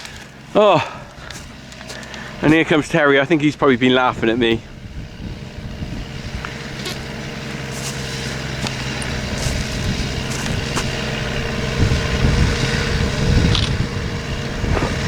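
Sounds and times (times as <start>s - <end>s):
tractor engine hum: 0.0s - 15.0s.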